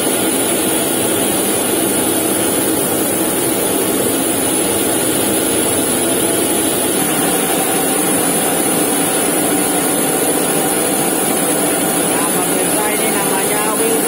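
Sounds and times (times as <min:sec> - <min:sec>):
jet turbine roar: 0:00.0 - 0:14.0.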